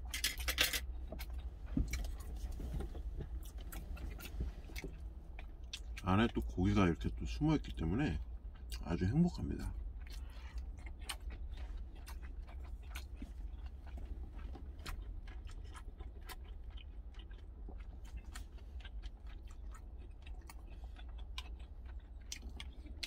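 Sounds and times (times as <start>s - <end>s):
steady low rumble: 0.0s - 23.0s
person chewing food: 0.1s - 23.0s.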